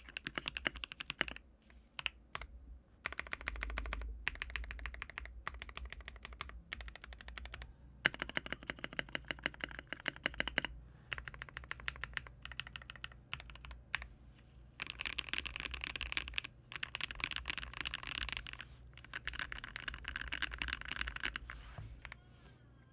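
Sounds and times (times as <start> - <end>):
mechanical keyboard typing: 0.0 - 1.4, 2.0 - 14.1, 14.8 - 22.2.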